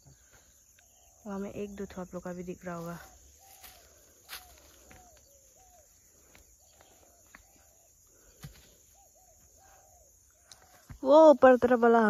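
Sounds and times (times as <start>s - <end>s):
birds calling faintly: 0.0s - 12.0s.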